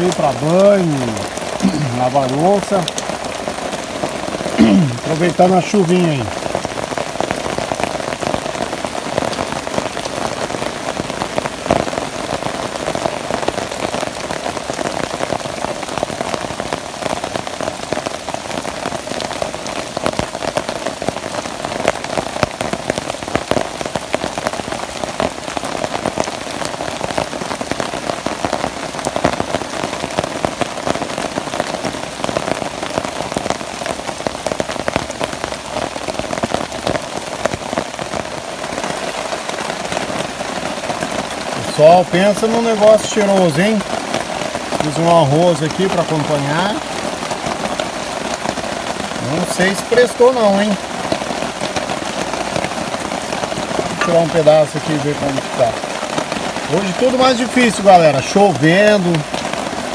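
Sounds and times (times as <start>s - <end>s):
rain on plastic tarps: 0.0s - 59.9s.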